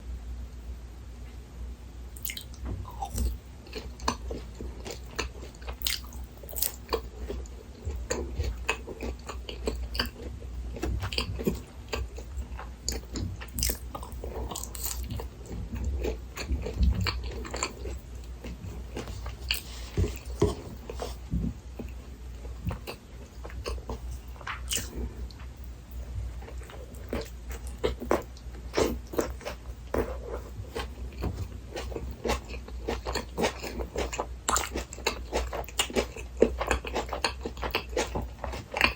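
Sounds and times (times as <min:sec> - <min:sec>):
biting and chewing: 0:02.2 - 0:25.4, 0:26.2 - 0:38.9.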